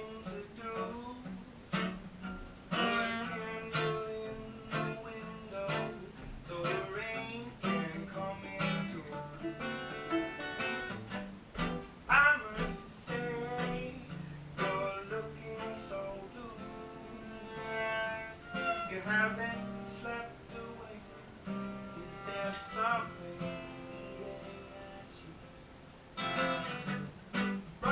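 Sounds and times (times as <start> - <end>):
acoustic guitar music: 0.0 - 27.9.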